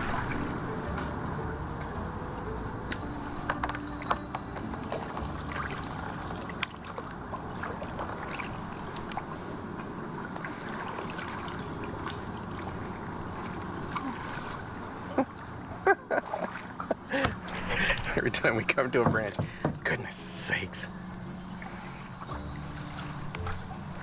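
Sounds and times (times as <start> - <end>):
paddle splashing in water: 0.0 - 18.2, 19.2 - 24.0.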